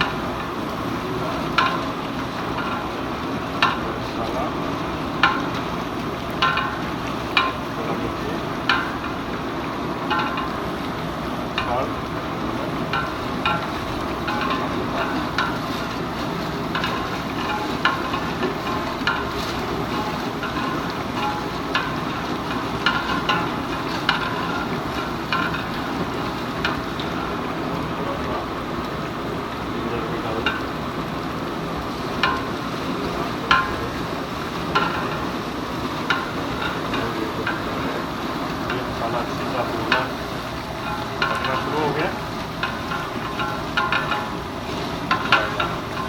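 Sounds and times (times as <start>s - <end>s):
food sizzling in a pot: 0.0s - 46.0s.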